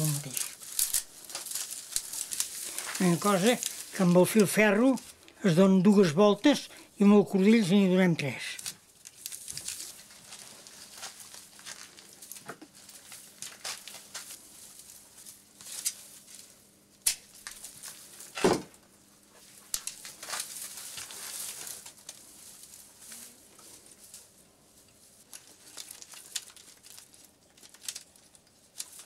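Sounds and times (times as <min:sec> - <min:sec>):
dry twigs rustling and crackling: 0:00.0 - 0:18.4, 0:19.3 - 0:29.0.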